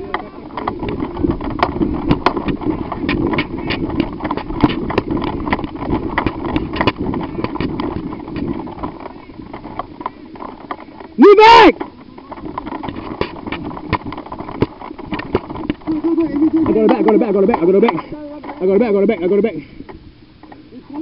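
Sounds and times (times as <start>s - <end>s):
gear clattering: 0.0s - 11.2s, 11.8s - 18.9s
footsteps: 0.0s - 19.2s.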